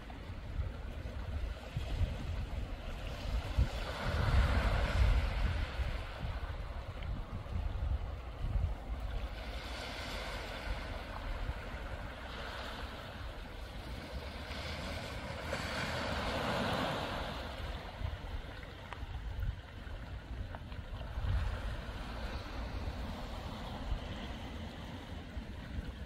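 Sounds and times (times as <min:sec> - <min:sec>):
surf washing against rocks: 0:00.0 - 0:26.0
wind buffeting microphone: 0:00.0 - 0:26.0.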